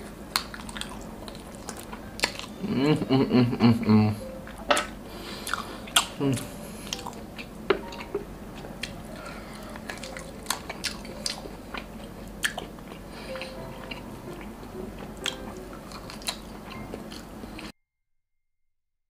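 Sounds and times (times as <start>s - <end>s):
person chewing with wet smacks: 0.3s - 2.6s, 4.5s - 17.7s.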